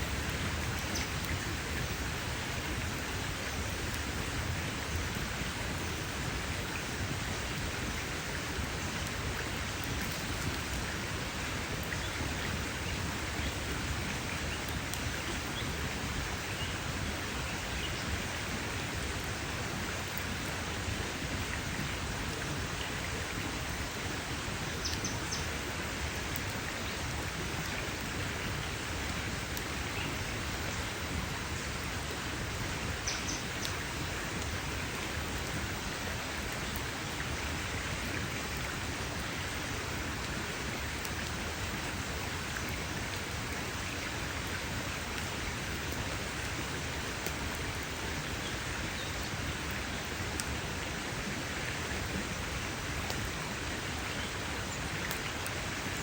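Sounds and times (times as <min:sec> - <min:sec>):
campfire hissing: 0:00.0 - 0:56.0
fire crackles: 0:00.0 - 0:56.0.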